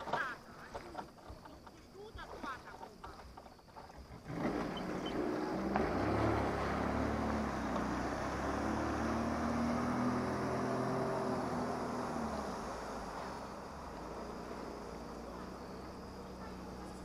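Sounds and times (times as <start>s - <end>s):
engine running: 2.6s - 17.0s.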